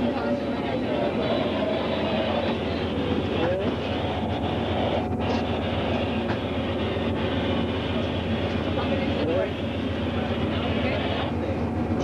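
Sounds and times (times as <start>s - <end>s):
train rolling on rails: 0.0s - 12.0s.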